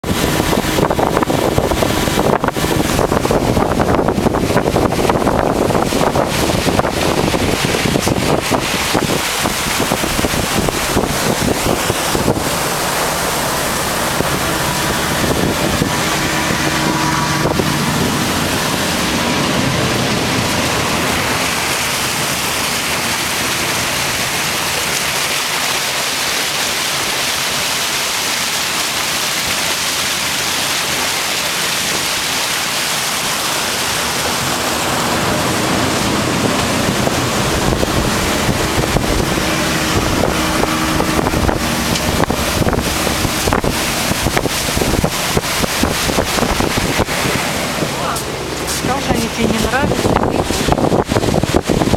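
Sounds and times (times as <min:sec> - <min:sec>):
wind blowing over microphone: 0:00.0 - 0:24.3, 0:33.3 - 0:51.9
low engine hum: 0:00.0 - 0:51.9
water rushing past ship hull: 0:00.0 - 0:51.9.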